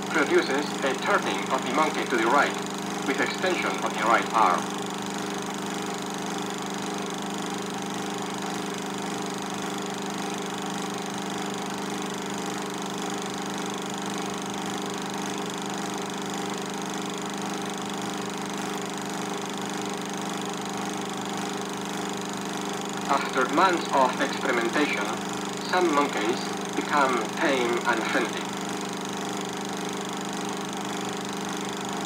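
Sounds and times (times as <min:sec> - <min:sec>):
film projector running: 0:00.0 - 0:32.0.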